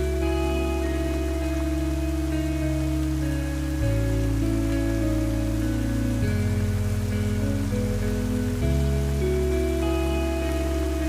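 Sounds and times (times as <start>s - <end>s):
deep bass drone: 0.0s - 11.0s
rain falling: 0.0s - 11.0s
slow ambient music: 0.0s - 11.0s.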